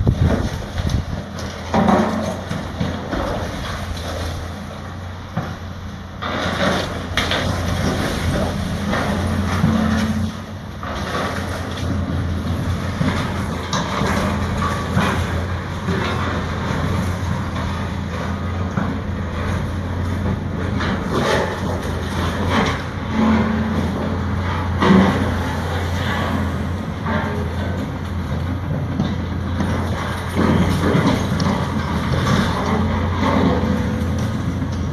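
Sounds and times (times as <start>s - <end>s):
knocks and clanks: 0.0s - 4.4s, 5.3s - 34.9s
heavy machinery engine hum: 0.0s - 34.9s.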